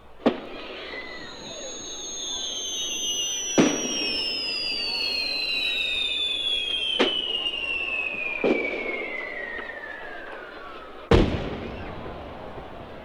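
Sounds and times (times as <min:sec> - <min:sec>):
firework cracks: 0:00.0 - 0:13.0
firework whistle falling in pitch: 0:00.0 - 0:13.0
loud firework bang: 0:00.0 - 0:13.0.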